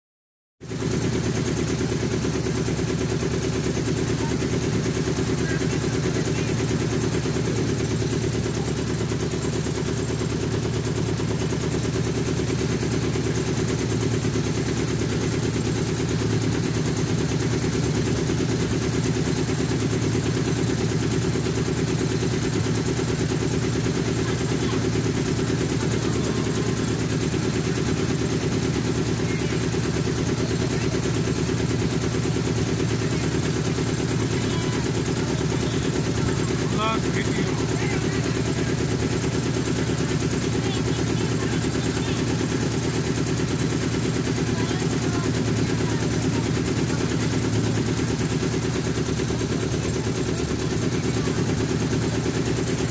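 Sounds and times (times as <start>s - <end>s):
boat engine chugging: 0.6s - 52.9s.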